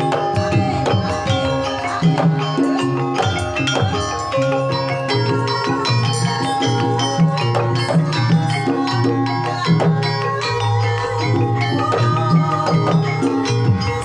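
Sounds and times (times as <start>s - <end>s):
hand drum strokes: 0.0s - 14.0s
metallophones and gongs ringing: 0.0s - 14.0s.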